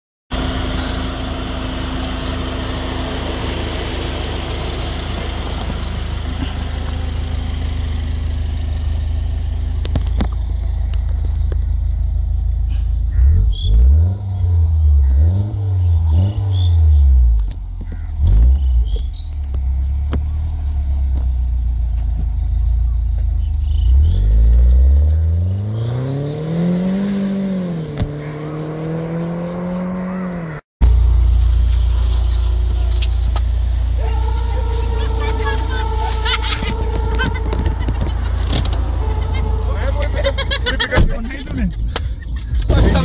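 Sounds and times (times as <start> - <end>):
car engine idling and revving: 0.3 - 43.0.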